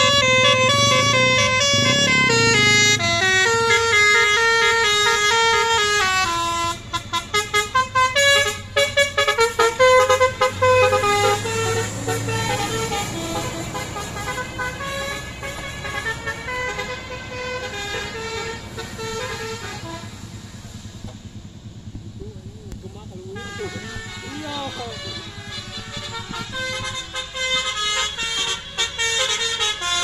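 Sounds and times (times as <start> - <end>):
multi-tone bus horn tune: 0.0 - 20.9, 22.7 - 30.0.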